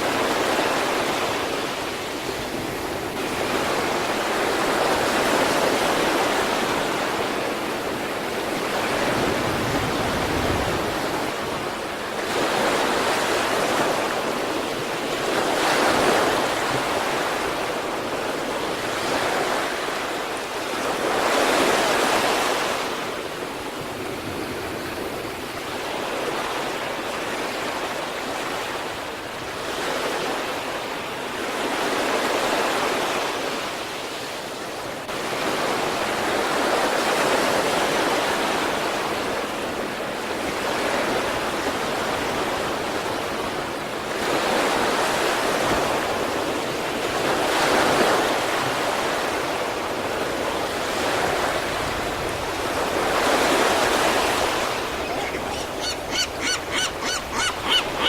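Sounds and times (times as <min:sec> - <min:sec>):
waves breaking: 0:00.0 - 0:29.0, 0:35.1 - 0:58.0.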